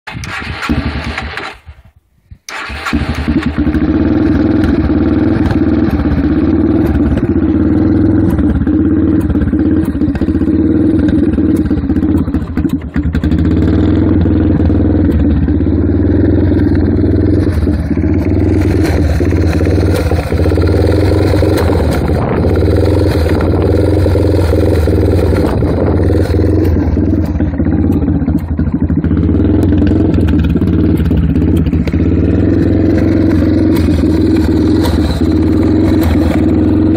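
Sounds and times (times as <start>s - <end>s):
motorcycle engine idling roughly: 0.1s - 36.9s.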